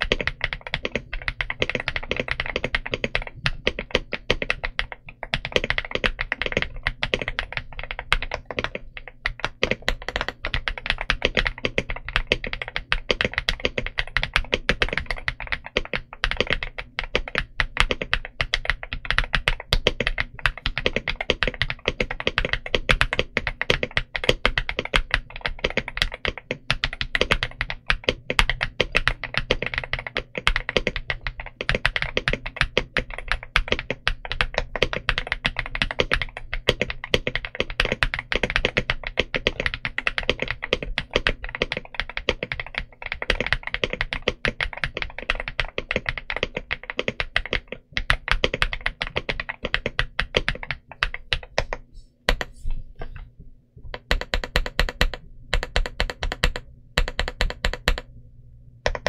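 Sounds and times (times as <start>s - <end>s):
fast typing on mechanical keyboard: 0.0s - 52.5s, 53.9s - 58.1s.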